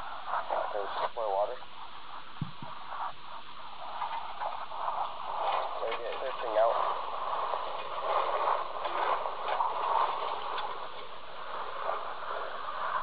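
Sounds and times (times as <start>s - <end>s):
steam hissing from boiler: 0.0s - 13.0s.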